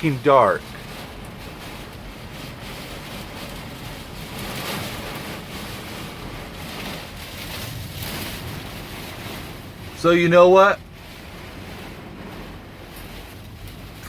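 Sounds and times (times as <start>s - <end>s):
heavy rain on a truck: 0.0s - 14.0s
strong wind gusts: 0.0s - 14.0s.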